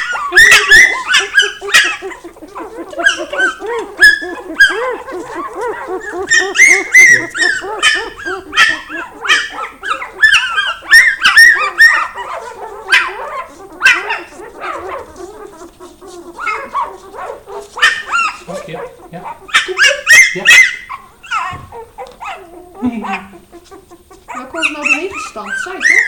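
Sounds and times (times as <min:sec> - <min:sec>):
puppies yelping and whining: 0:00.0 - 0:26.0.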